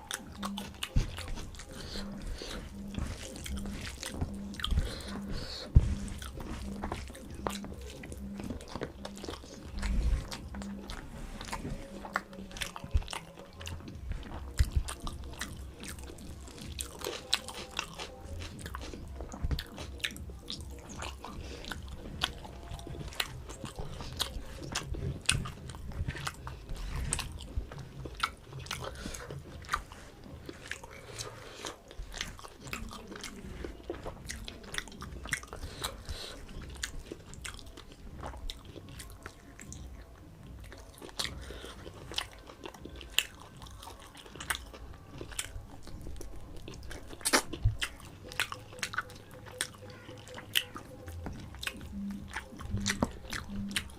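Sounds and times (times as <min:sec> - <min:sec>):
chewing with crunches: 0:00.0 - 0:53.9
low steady hum: 0:00.0 - 0:53.9.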